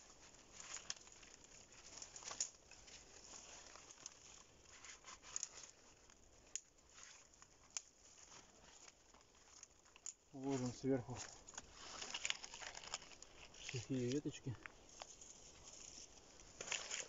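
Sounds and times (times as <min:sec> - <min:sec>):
bark crinkling: 0:00.1 - 0:17.0
twigs snapping: 0:00.2 - 0:17.0.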